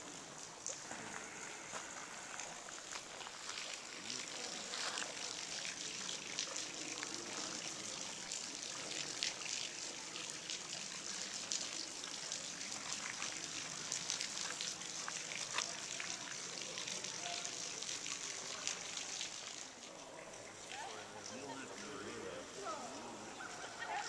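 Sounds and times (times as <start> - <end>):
small waterfall splashing: 0.0 - 24.0
water drips: 0.0 - 24.0.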